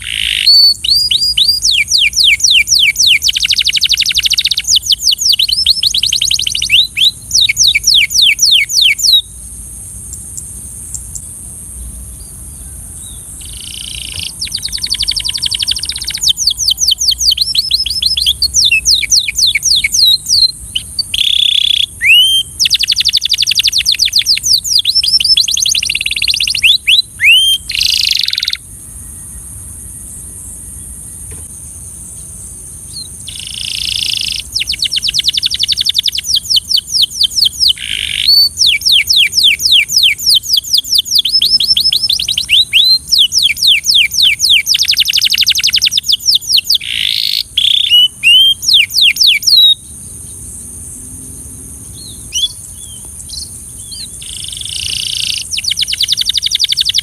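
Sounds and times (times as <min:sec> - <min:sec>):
canary singing trills: 0:00.0 - 0:31.3, 0:32.1 - 0:50.6, 0:51.8 - 0:57.0
steady high hiss: 0:00.0 - 0:57.0.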